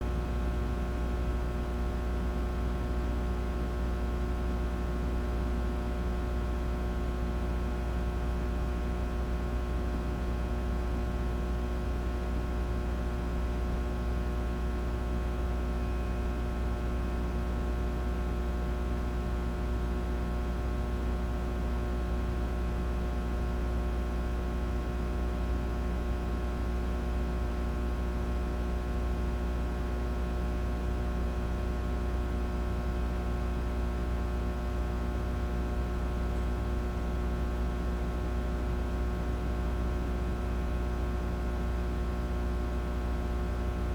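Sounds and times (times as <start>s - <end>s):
fluorescent light buzzing: 0.1s - 43.9s.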